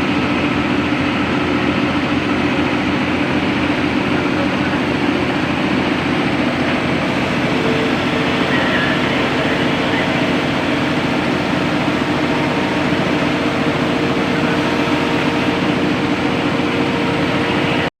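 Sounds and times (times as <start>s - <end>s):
air compressor droning: 0.0s - 17.9s.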